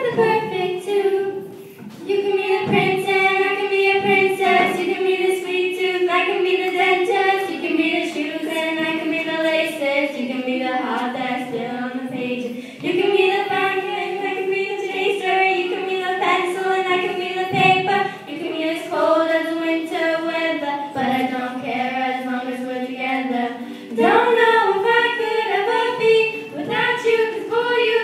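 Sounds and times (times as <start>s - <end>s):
girls singing together: 0.0s - 28.0s.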